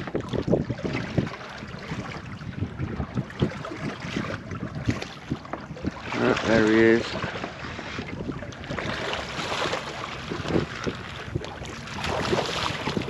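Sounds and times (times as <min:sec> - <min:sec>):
water against boat hull: 0:00.0 - 0:13.0
wind on microphone: 0:00.0 - 0:13.0.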